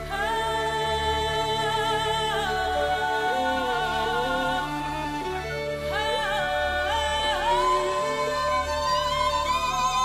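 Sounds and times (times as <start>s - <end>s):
slow melody of long notes: 0.0s - 10.0s.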